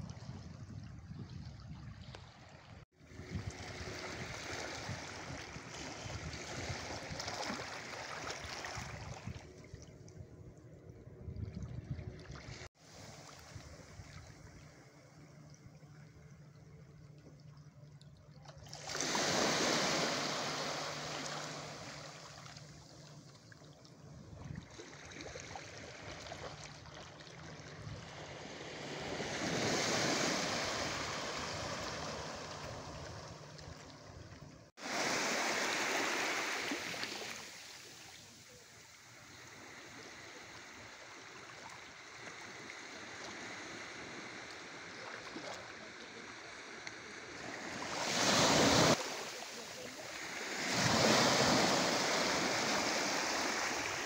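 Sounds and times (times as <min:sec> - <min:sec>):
small waves washing on shore: 0:01.5 - 0:09.8, 0:18.6 - 0:54.0.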